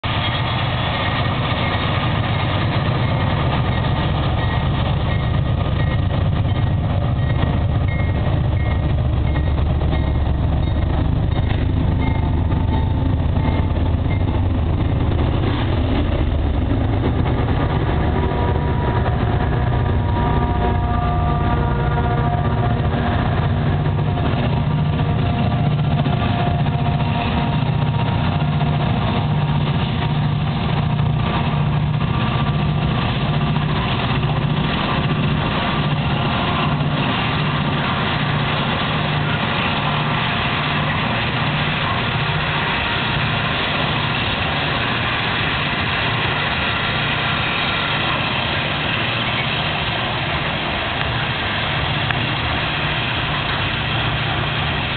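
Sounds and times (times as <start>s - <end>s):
diesel locomotive engine throb: 0.0s - 54.9s
freight cars rumbling and clattering: 0.0s - 54.9s.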